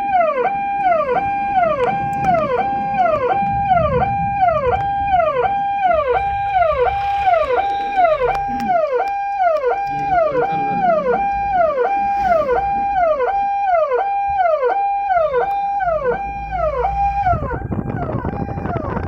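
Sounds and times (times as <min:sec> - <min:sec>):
ambulance siren: 0:00.0 - 0:19.0
noisy rumble: 0:00.0 - 0:19.0.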